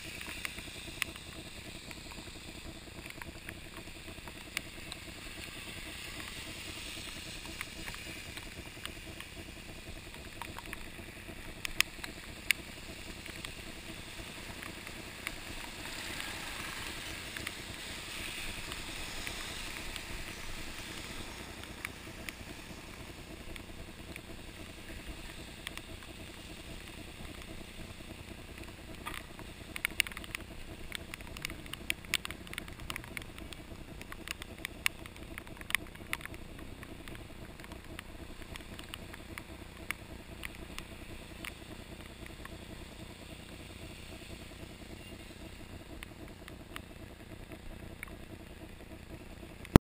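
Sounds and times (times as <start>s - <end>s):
sharp clicks and knocks: 0.0s - 17.6s, 18.5s - 42.6s
bike tyres on wet road: 0.0s - 49.8s.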